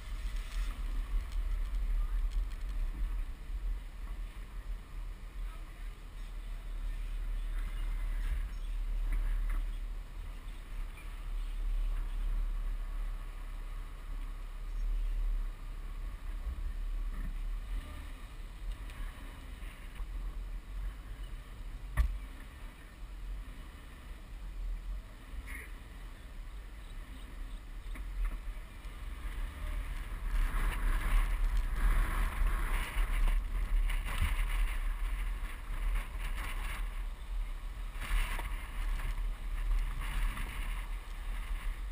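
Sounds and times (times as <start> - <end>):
car engine rumble: 0.0 - 41.9
wind buffeting microphone: 0.0 - 41.9.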